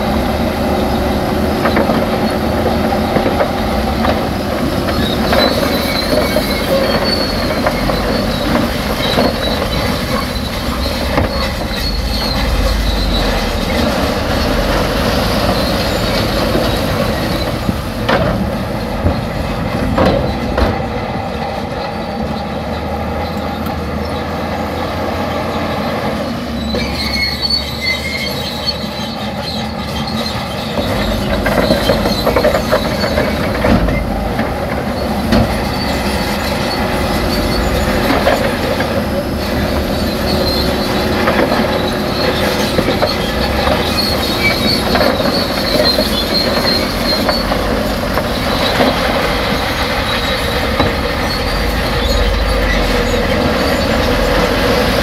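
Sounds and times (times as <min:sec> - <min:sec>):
diesel engine rumble: 0:00.0 - 0:55.0
high-pitched metallic squealing: 0:04.7 - 0:17.7, 0:21.7 - 0:55.0.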